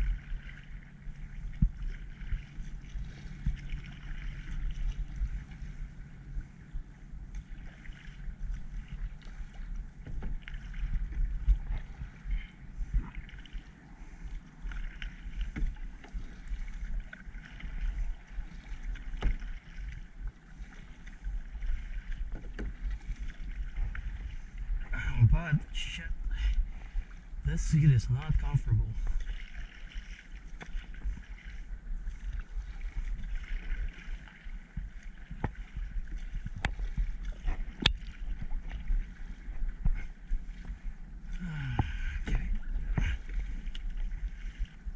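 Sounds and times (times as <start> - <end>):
paddle splashing in water: 0.0 - 44.9
wind rumble on microphone: 0.0 - 44.9.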